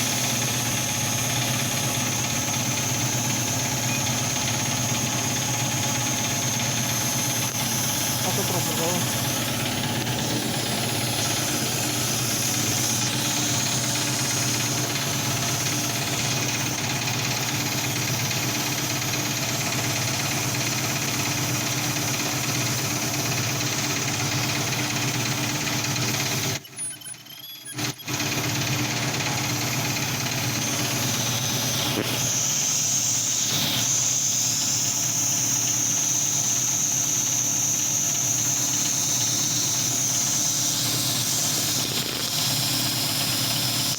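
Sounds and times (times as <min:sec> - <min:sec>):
welding machine humming: 0:00.0 - 0:43.9.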